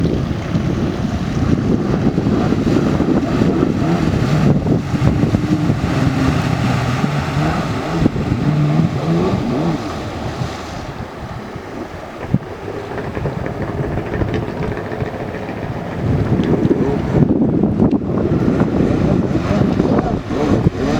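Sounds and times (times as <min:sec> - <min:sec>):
jet ski engine running: 0:00.0 - 0:20.9
wind noise on microphone: 0:00.0 - 0:20.9.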